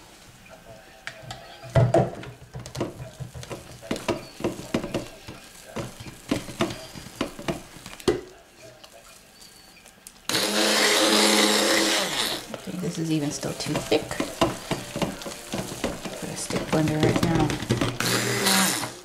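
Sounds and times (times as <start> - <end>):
stick blender knocking in paste: 1.8 - 8.3, 10.3 - 19.0.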